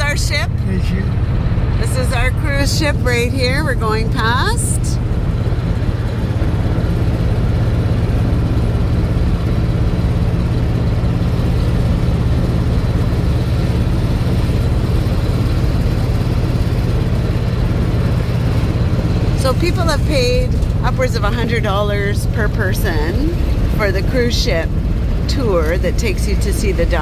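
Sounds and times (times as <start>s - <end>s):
road noise: 0.0s - 27.0s
vehicle engine hum: 0.0s - 27.0s.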